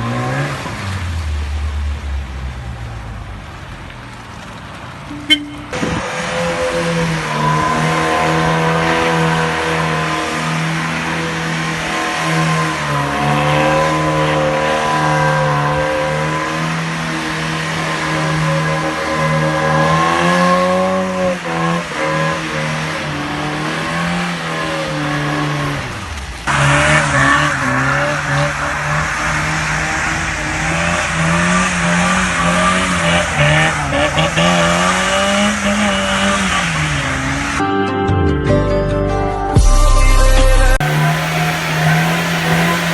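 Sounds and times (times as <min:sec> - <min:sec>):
car engine revving hard: 0:00.0 - 0:03.0, 0:05.7 - 0:37.6, 0:40.7 - 0:42.9.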